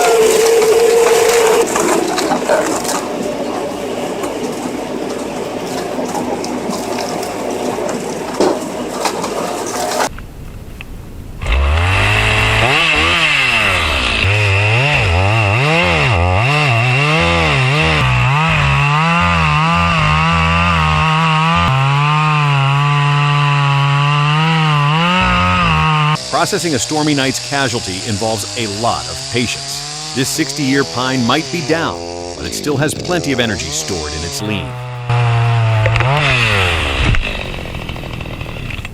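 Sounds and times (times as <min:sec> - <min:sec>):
chainsaw engine revving: 0:00.0 - 0:08.1, 0:11.4 - 0:38.9
rough noisy machine: 0:00.0 - 0:10.1, 0:11.4 - 0:38.9.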